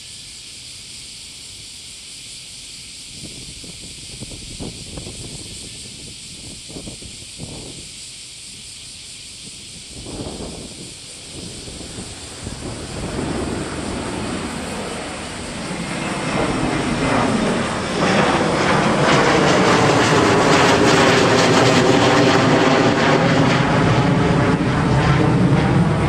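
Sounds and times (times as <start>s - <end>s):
jet engines passing low: 0.0s - 26.0s.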